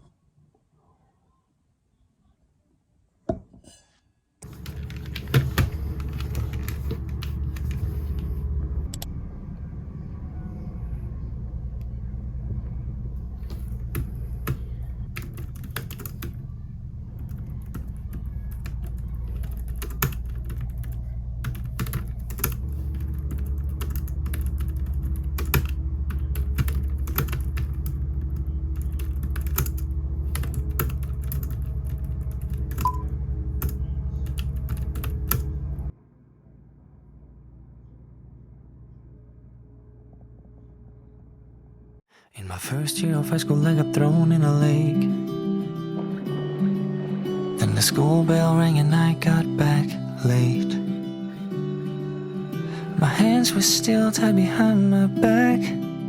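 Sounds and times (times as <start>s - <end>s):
steady low drone: 4.4s - 42.0s, 42.9s - 56.0s.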